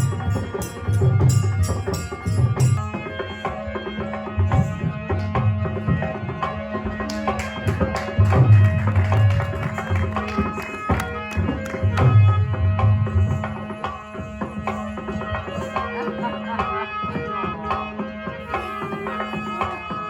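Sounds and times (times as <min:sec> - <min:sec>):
hand drums beating: 0:00.0 - 0:20.0.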